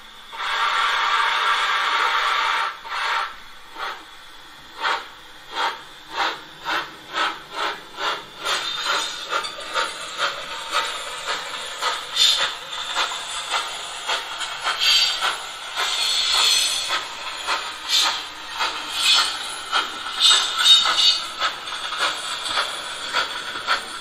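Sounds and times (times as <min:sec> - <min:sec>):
steam hiss: 0:00.3 - 0:24.0
steam locomotive exhaust chuffs: 0:00.3 - 0:24.0.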